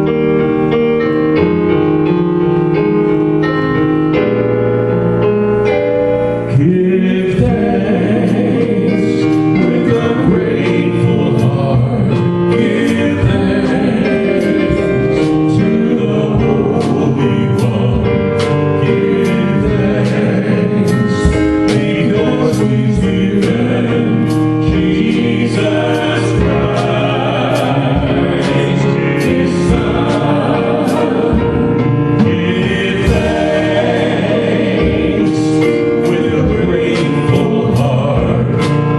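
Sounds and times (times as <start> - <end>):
piano: 0.0 - 38.9
people singing: 6.5 - 38.9
steady beat: 7.4 - 38.9.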